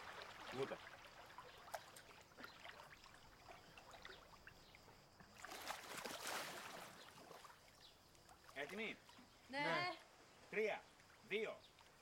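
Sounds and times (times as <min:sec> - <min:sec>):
pool water lapping: 0:00.0 - 0:12.0.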